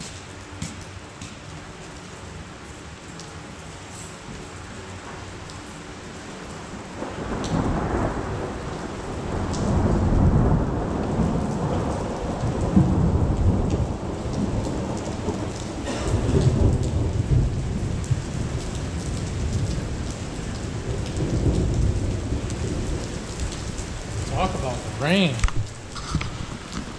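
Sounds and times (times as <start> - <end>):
heavy rain pouring: 0.0 - 26.9.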